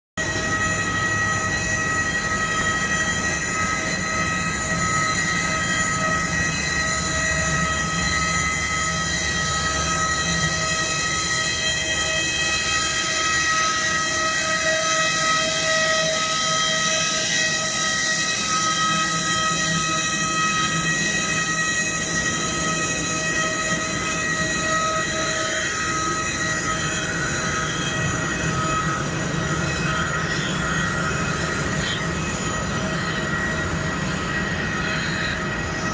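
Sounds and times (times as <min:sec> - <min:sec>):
aircraft turbine whine: 0:00.2 - 0:35.9.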